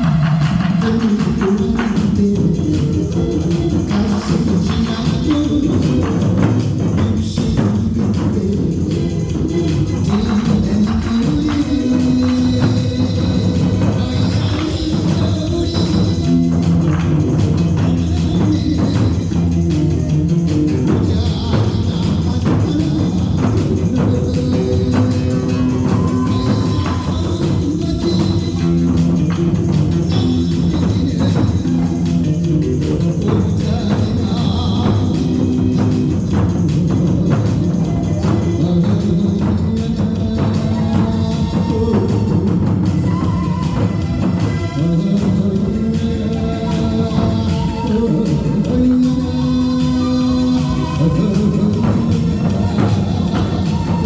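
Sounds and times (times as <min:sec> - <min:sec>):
accompanying music: 0:00.0 - 0:54.0
barrel drums beaten: 0:00.0 - 0:54.0.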